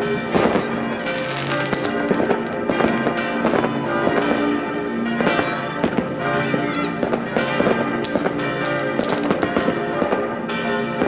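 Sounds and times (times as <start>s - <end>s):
church bells ringing: 0.0s - 11.0s
fireworks bangs and crackles: 0.2s - 4.5s, 5.1s - 11.0s.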